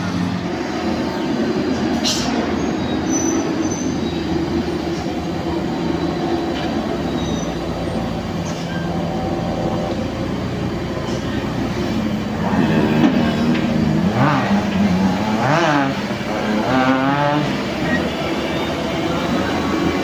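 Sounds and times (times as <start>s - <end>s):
heavy truck engine under load: 0.0s - 20.0s.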